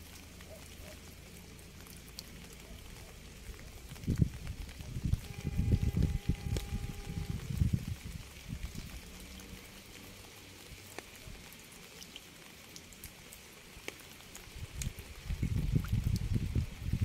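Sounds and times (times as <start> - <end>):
rain falling: 0.0 - 17.0
raindrops ticking sharply: 0.0 - 17.0.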